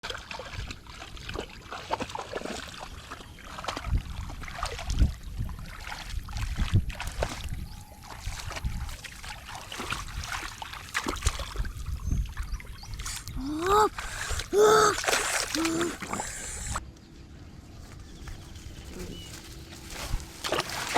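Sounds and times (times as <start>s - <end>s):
shallow water sloshing: 0.0s - 16.8s, 19.6s - 20.9s.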